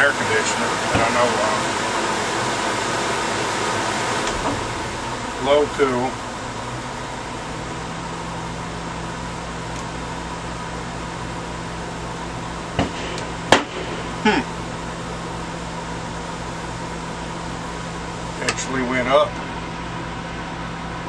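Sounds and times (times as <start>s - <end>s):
air conditioner fan blowing: 0.0s - 21.0s.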